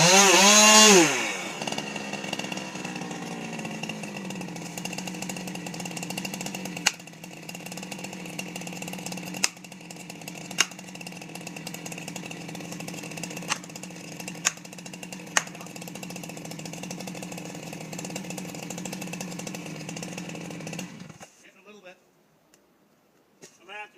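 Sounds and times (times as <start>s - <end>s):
chainsaw engine idling: 0.0s - 21.4s.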